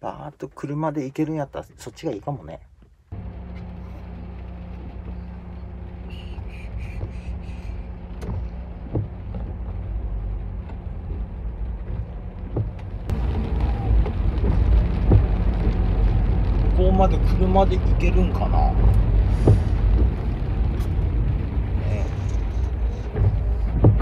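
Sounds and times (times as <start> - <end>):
road noise: 2.7 - 24.0
van engine humming: 2.8 - 24.0.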